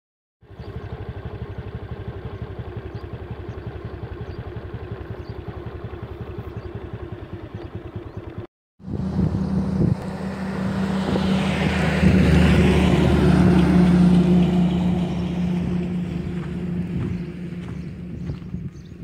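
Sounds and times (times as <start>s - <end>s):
vehicle engine idling: 0.4s - 19.0s.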